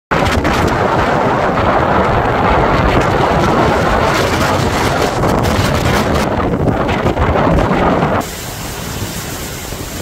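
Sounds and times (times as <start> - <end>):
wind buffeting microphone: 0.1 - 10.0.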